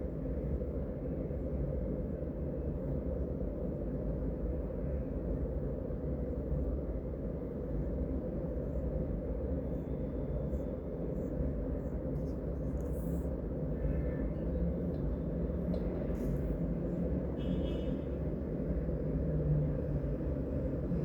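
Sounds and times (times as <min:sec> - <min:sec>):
low rumble of street traffic: 0:00.0 - 0:21.0.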